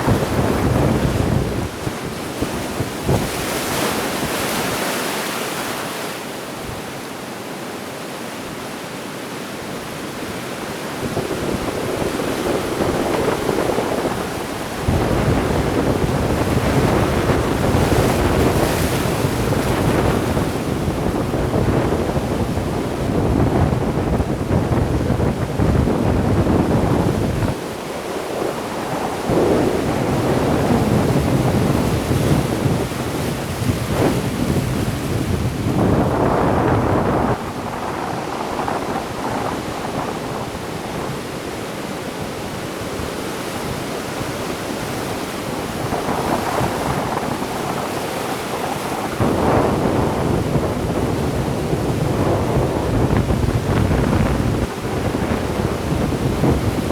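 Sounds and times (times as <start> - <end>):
wind buffeting microphone: 0.0 - 5.0, 10.3 - 56.9
sea waves washing ashore: 0.0 - 56.9.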